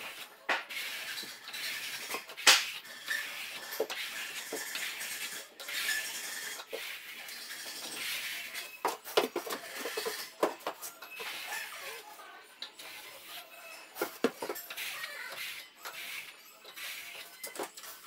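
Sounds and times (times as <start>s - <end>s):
trowel scraping plaster wall: 0.0s - 18.0s.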